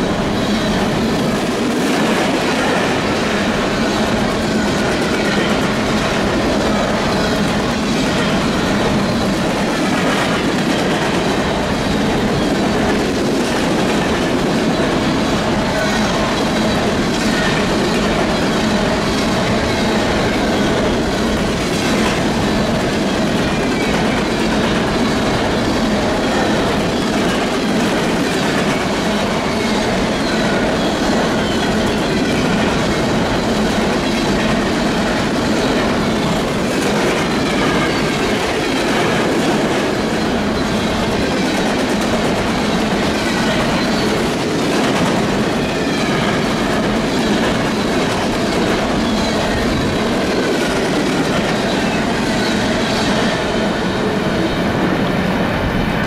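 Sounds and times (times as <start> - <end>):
clickety-clack over rail joints: 0.0 - 56.0
train wheels rumbling on rail: 0.0 - 56.0.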